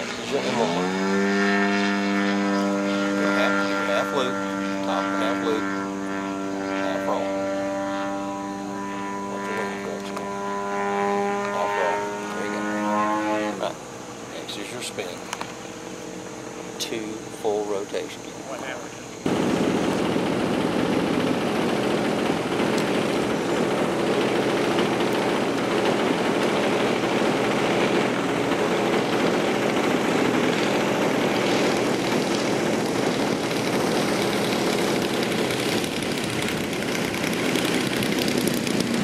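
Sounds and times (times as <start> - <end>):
model airplane engine running: 0.0 - 39.0.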